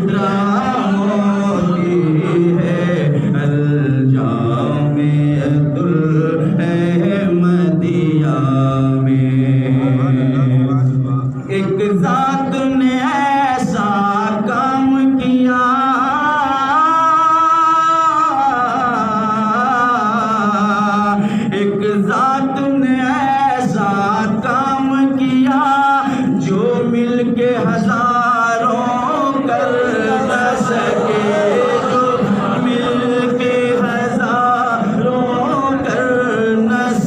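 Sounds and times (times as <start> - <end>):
voices singing devotional chant: 0.0 - 37.0.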